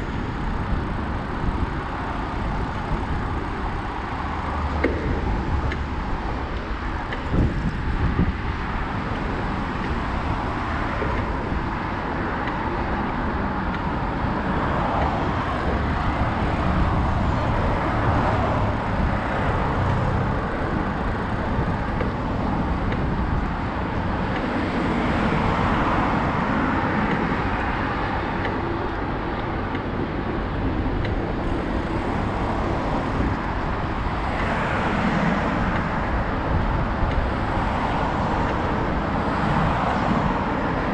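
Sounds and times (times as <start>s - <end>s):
road traffic noise: 0.0s - 40.9s.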